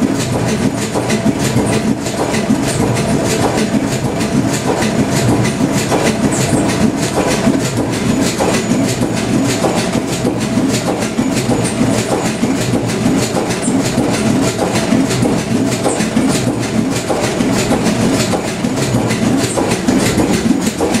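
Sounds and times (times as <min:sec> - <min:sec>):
diesel engine rhythmic clatter: 0:00.0 - 0:21.0.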